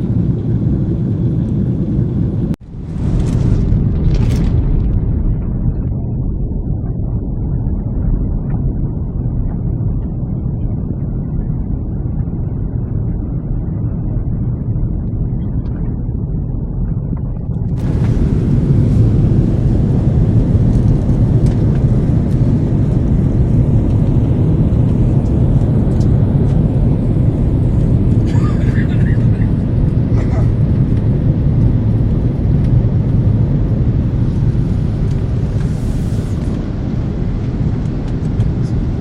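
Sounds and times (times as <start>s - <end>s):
vehicle rumbling: 0.0s - 39.0s.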